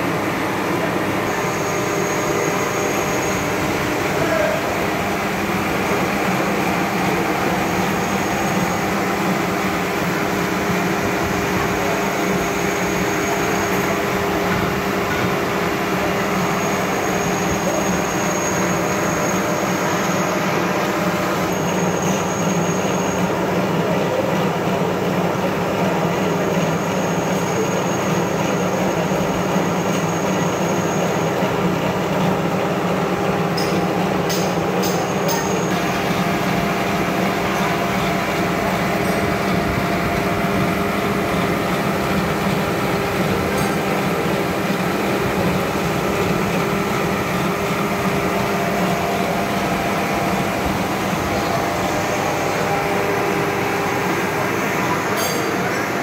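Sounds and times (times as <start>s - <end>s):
machine hum with high whine: 0.0s - 56.0s.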